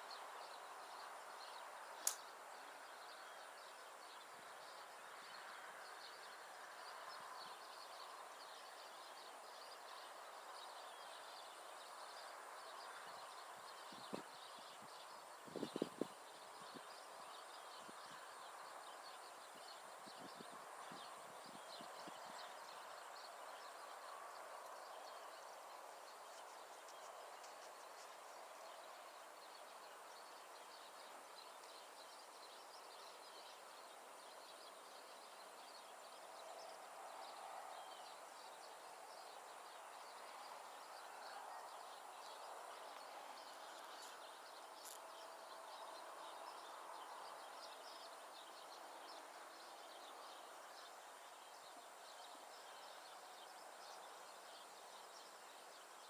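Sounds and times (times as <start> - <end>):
faint outdoor background noise: 0.0 - 56.0.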